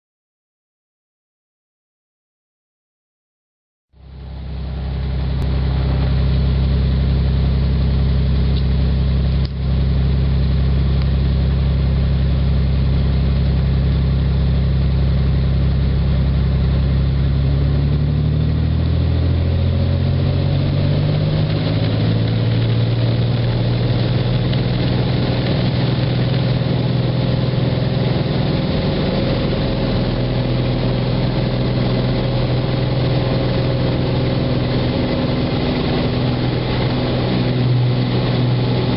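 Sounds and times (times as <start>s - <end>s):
piston aircraft engine and propeller: 4.0s - 38.9s.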